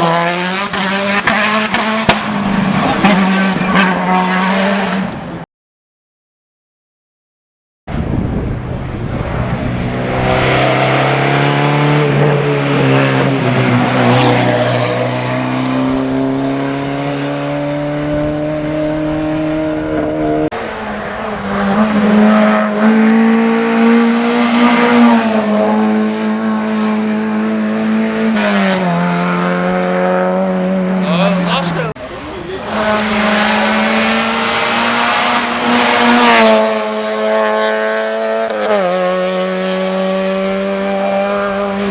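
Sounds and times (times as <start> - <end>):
race car engine at high revs: 0.0 - 5.4, 7.9 - 41.9.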